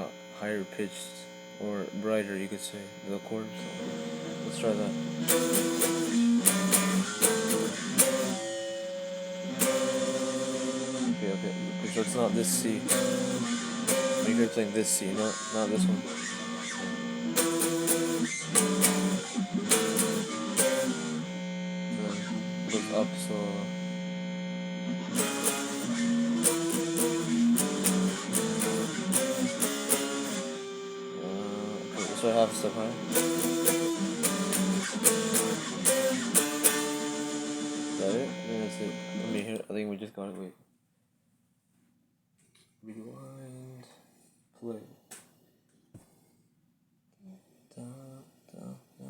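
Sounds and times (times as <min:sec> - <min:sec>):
guitar chords strummed: 0:00.0 - 0:39.6.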